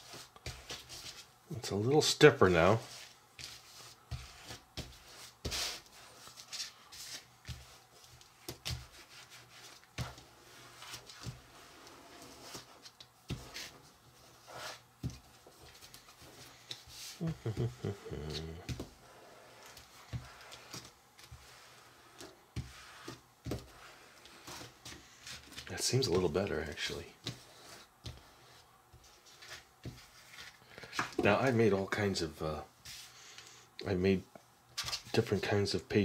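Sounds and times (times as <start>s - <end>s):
hands kneading dough: 0.0s - 32.2s.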